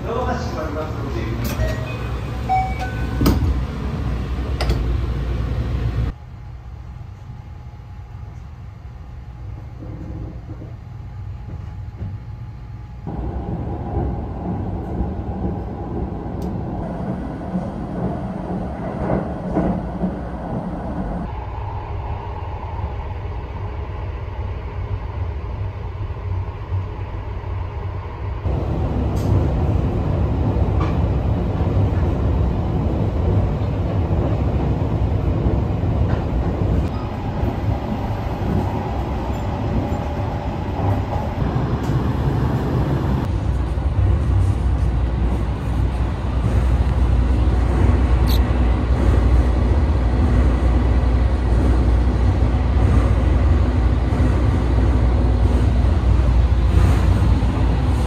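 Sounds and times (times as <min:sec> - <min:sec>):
train rumbling inside cars: 0:00.0 - 0:58.0.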